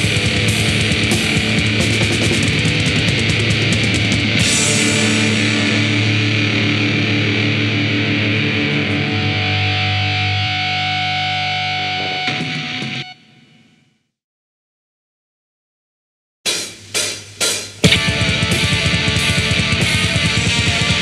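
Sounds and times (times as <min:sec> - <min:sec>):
drums: 0:00.0 - 0:13.5, 0:16.4 - 0:21.0
distorted electric guitars: 0:00.0 - 0:13.8, 0:16.5 - 0:21.0.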